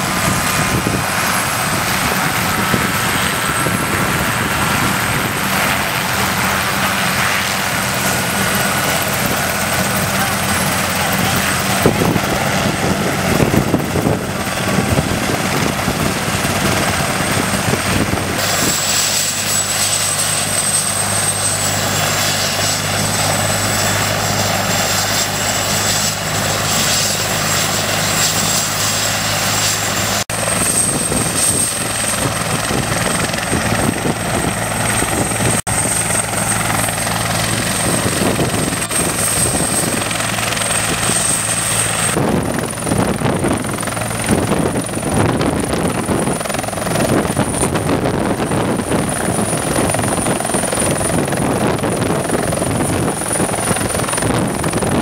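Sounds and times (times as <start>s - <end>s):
helicopter rotor chop: 0.0s - 55.0s
high turbine whine: 0.0s - 55.0s.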